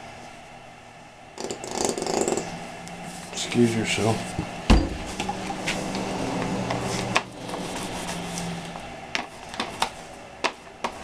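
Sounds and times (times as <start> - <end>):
traffic drone: 0.0 - 11.0.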